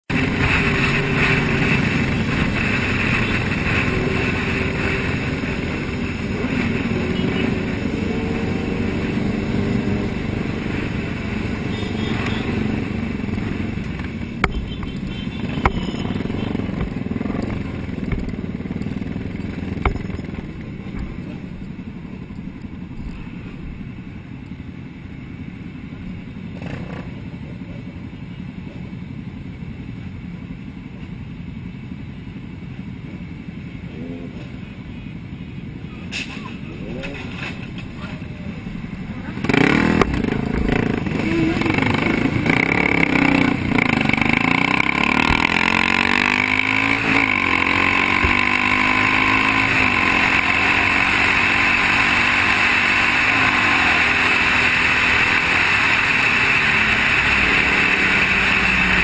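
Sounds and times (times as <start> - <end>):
motorcycles running and revving: 0.0 - 59.0.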